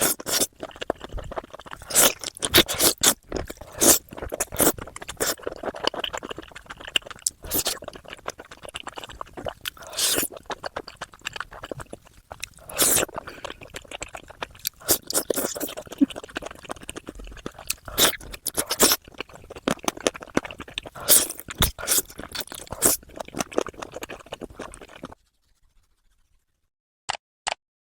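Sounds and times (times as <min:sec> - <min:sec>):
crunchy bites and chewing: 0:00.0 - 0:25.1.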